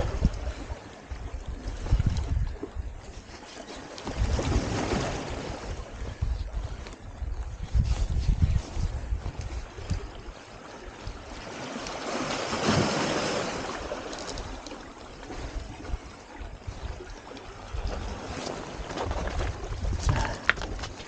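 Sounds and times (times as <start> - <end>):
sea waves washing over rocks: 0.0 - 6.3, 8.4 - 21.0.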